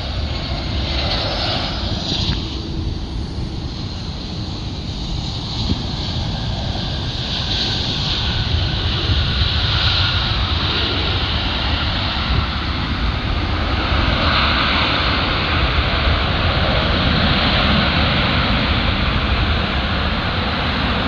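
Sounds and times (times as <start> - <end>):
jet engines rushing: 0.0 - 21.0
wind rumble on microphone: 0.0 - 21.0.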